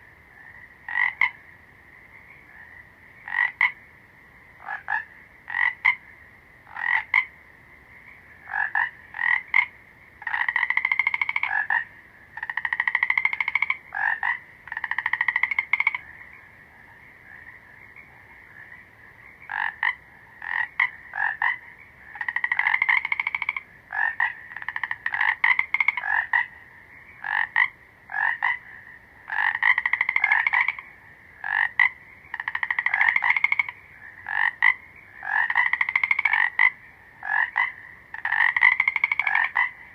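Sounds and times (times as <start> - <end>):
chorus of frogs: 0.0 - 39.9
frog croaking: 0.0 - 39.9.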